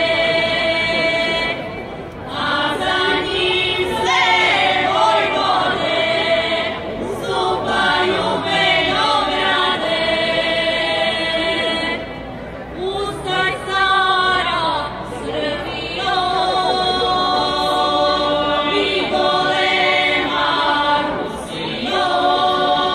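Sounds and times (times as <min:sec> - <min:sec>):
vocal group singing a cappella: 0:00.0 - 0:22.9.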